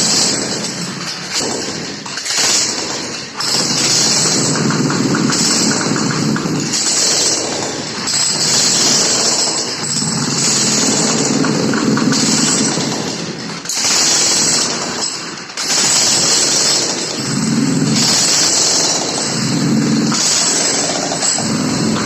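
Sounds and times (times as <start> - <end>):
jackhammer hammering: 0.0 - 22.0.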